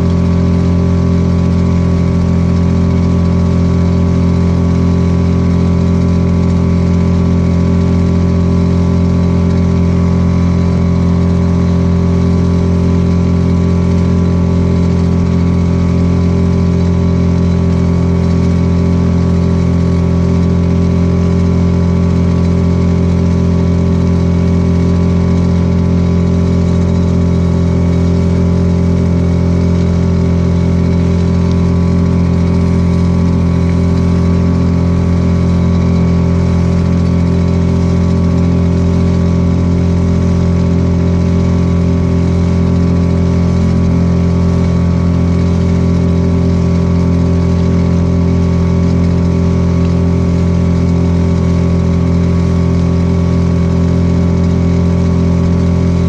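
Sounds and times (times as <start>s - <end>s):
small outboard motor running: 0.0s - 56.0s.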